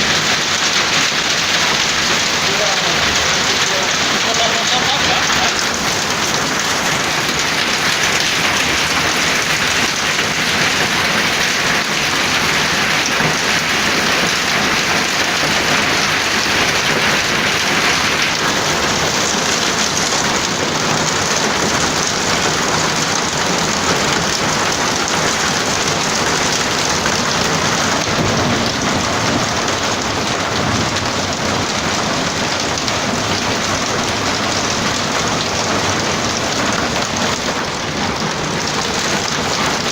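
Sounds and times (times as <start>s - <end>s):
hail and rain clattering: 0.0s - 39.9s.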